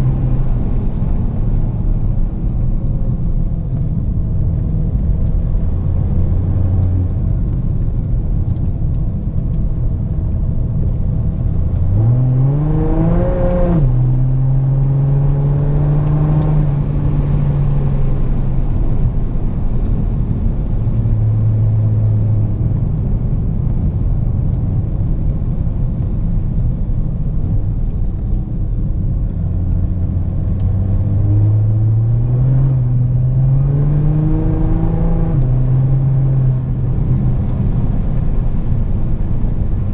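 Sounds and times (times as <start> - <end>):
heavy low rumble: 0.0 - 39.9.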